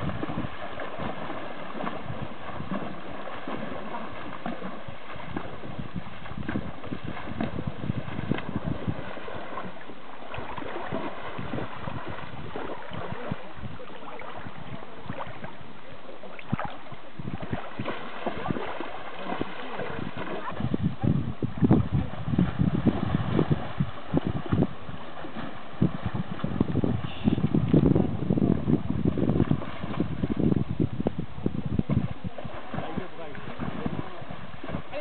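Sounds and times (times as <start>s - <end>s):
water splashing and lapping: 0.0s - 35.0s
wind buffeting microphone: 0.0s - 35.0s.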